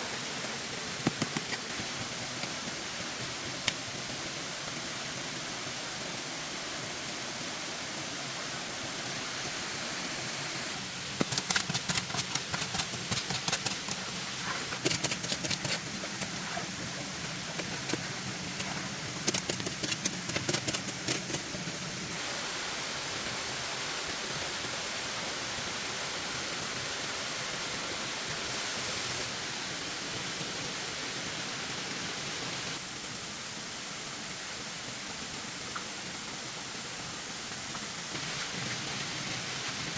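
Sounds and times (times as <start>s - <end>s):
steady rushing hiss: 0.0s - 39.9s.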